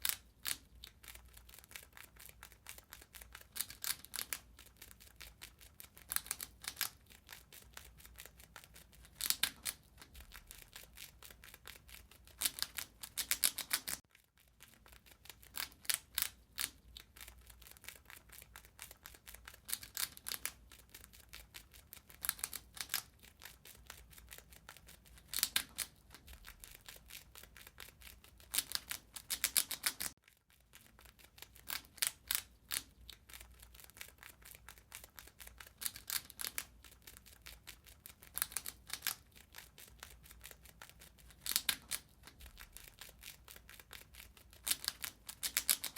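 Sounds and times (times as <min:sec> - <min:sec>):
rat crunching and gnawing: 0:00.0 - 0:45.9.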